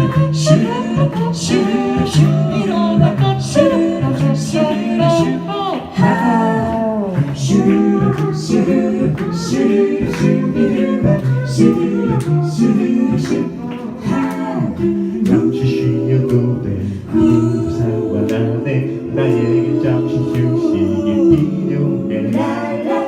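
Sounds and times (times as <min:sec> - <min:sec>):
a cappella group singing: 0:00.0 - 0:23.0
sharp rhythmic clicks: 0:00.0 - 0:23.0.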